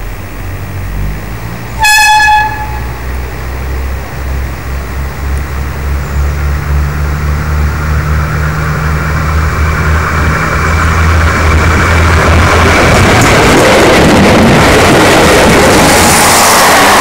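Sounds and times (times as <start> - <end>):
railcar engine drone: 0.0 - 17.0
wheel and rail noise: 0.0 - 17.0.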